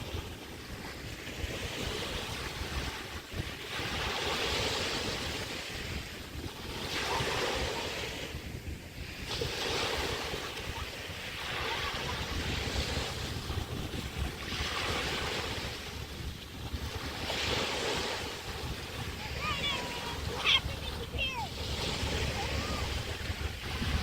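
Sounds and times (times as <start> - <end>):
small waves washing onto beach: 0.0 - 24.0
wind rumbling on microphone: 0.0 - 24.0.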